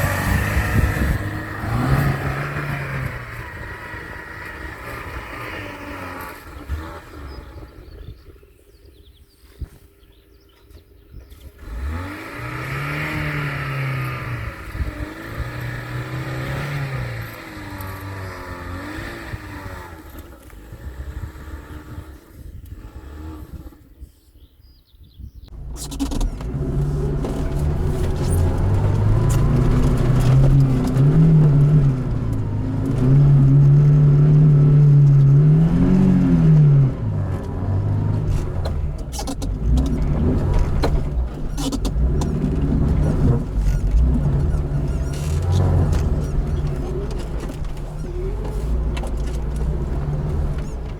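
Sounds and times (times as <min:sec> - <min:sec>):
car engine revving off-road: 0:00.0 - 0:09.3, 0:10.1 - 0:24.5, 0:25.5 - 0:50.9.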